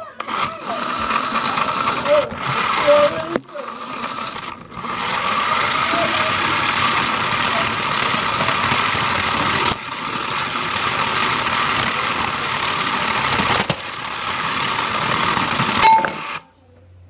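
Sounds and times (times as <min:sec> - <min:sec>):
toy car motor whirring: 0:00.0 - 0:16.4.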